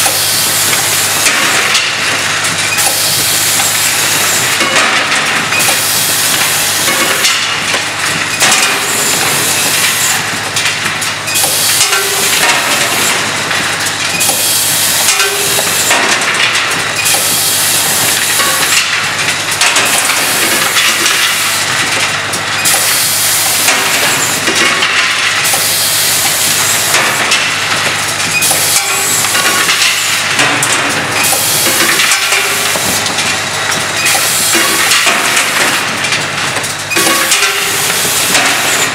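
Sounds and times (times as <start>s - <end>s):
clatter of parts and actuators: 0.0s - 38.9s.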